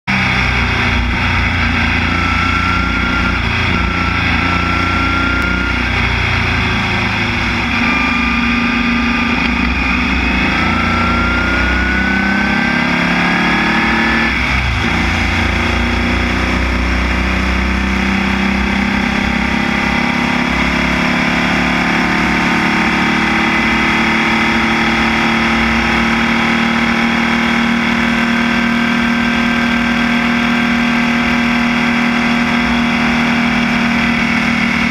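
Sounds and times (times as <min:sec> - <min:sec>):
race car engine at high revs: 0:00.0 - 0:34.9.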